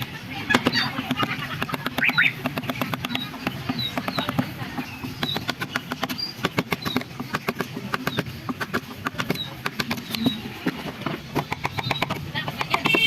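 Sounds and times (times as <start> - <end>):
carving tools tapping into wood: 0.0 - 13.0.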